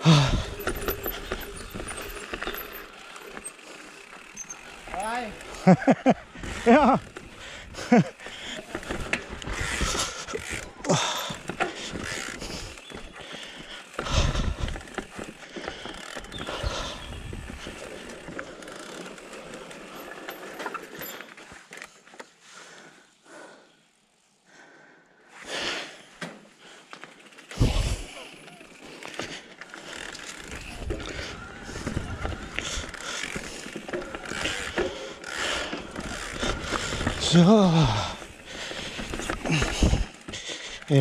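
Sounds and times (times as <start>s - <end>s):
bike rattling: 0.0s - 22.8s, 25.3s - 41.0s
tyres crunching over stones: 0.1s - 22.0s, 28.8s - 41.0s.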